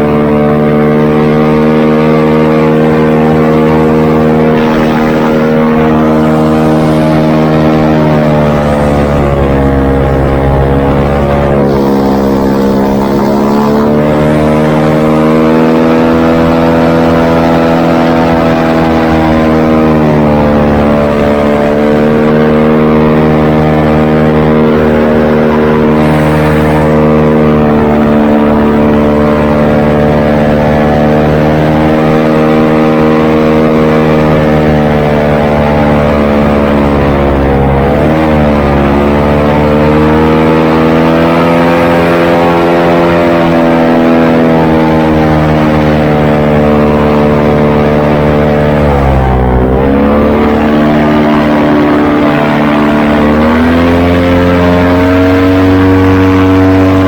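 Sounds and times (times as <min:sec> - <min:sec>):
airboat engine and propeller: 0:00.0 - 0:57.0.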